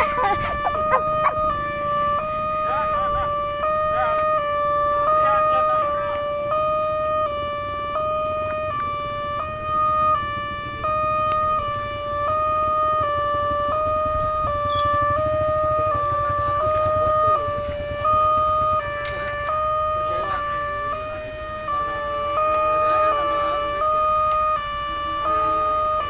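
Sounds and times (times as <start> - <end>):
level crossing two-tone alarm: 0.0 - 26.0.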